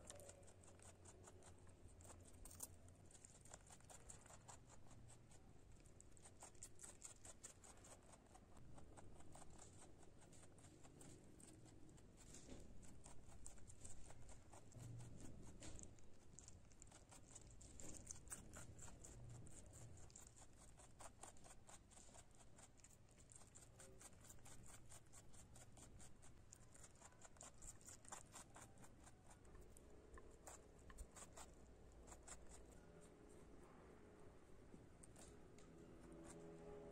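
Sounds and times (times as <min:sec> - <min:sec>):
rabbits chewing crunchy leaves: 0:00.0 - 0:33.5, 0:35.0 - 0:36.8.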